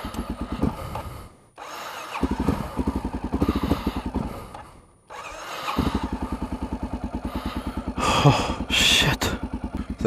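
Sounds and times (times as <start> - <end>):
motorcycle engine cranking: 0.0 - 10.0.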